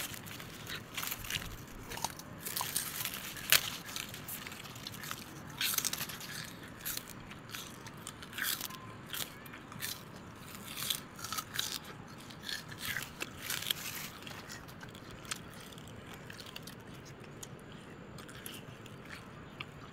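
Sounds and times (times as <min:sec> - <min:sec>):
crunchy snack being chewed: 0:00.0 - 0:19.9.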